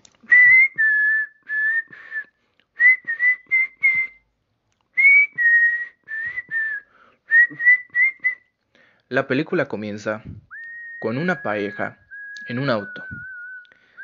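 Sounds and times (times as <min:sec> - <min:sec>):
person whistling a tune: 0:00.2 - 0:04.3, 0:05.0 - 0:08.5, 0:10.4 - 0:14.0.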